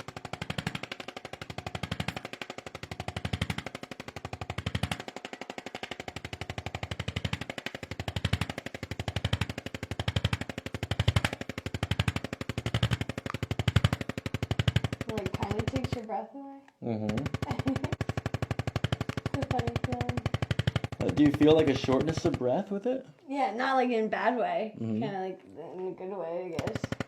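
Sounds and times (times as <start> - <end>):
percussion instrument rapid tapping: 0.0 - 16.1, 16.9 - 22.6, 26.6 - 27.0.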